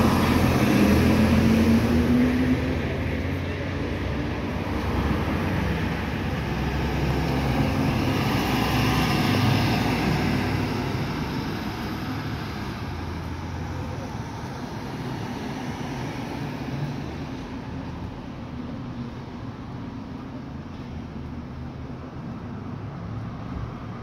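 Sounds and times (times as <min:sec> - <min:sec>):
fire engine driving past: 0:00.0 - 0:24.0
traffic engine and tyre noise: 0:00.0 - 0:24.0.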